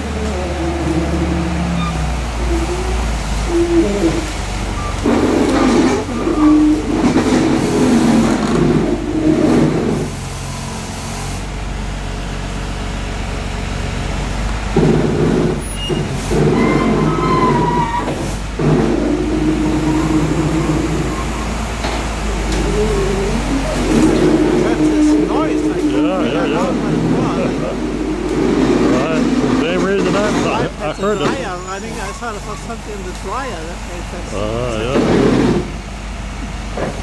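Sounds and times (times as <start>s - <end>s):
diesel engine of wheel loader: 0.0s - 37.0s.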